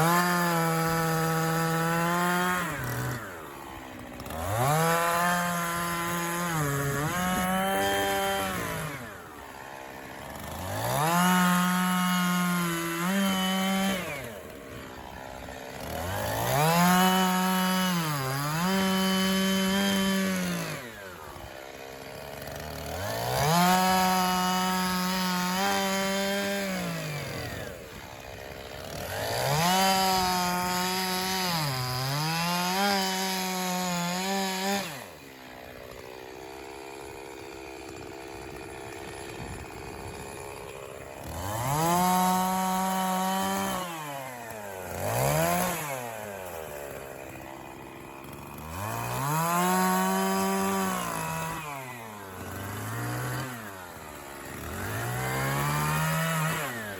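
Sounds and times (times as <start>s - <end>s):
chainsaw cutting logs: 0.0s - 56.9s.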